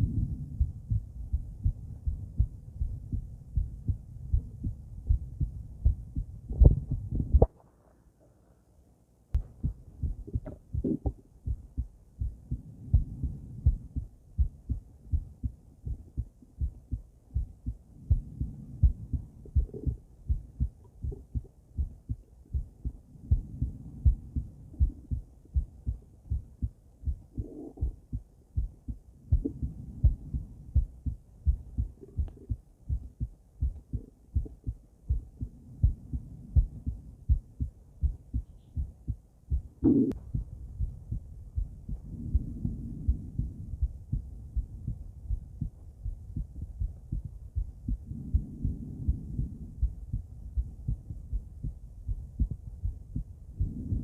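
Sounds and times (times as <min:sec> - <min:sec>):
heartbeat through stethoscope: 0:00.0 - 0:07.6, 0:09.4 - 0:54.0.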